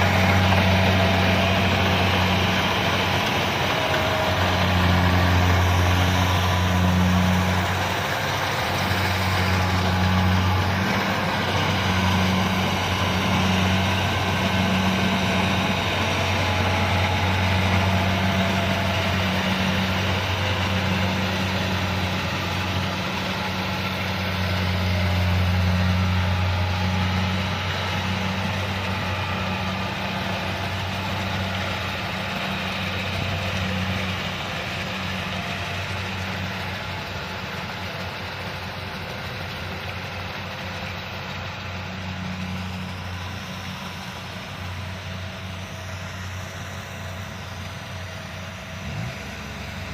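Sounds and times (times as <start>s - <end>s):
combine harvester diesel engine: 0.0s - 49.9s.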